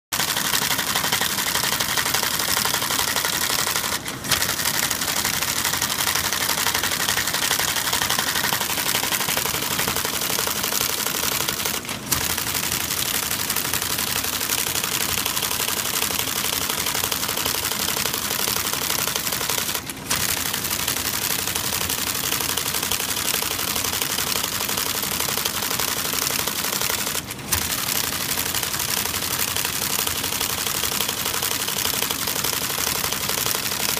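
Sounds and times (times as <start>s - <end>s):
sharp typewriter clack: 0.1s - 33.9s
typewriter printer clattering: 0.1s - 33.9s.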